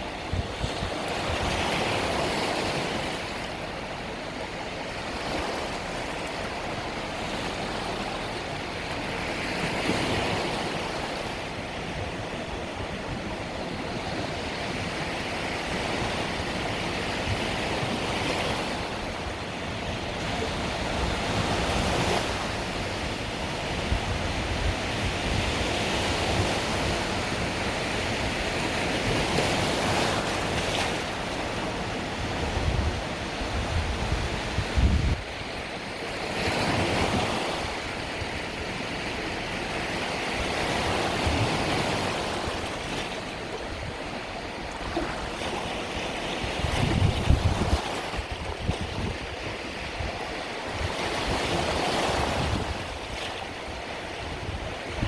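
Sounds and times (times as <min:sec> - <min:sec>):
wind buffeting microphone: 0:00.0 - 0:03.5, 0:08.4 - 0:35.8, 0:40.2 - 0:55.0
waves washing up the shore: 0:00.0 - 0:55.0.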